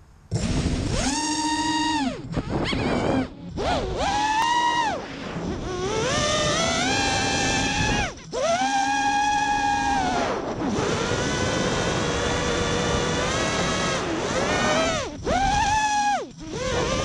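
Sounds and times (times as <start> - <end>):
drone motors whining: 0.3 - 17.0.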